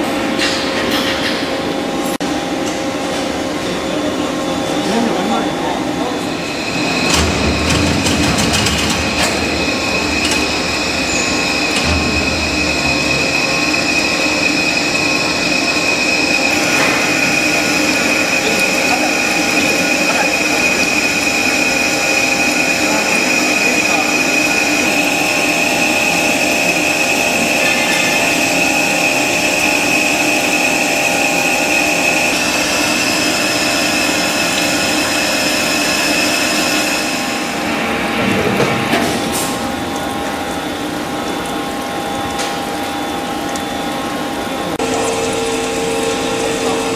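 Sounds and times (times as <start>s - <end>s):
machine running hum: 0.0s - 46.9s
lathe cutting tool whine: 1.4s - 46.9s.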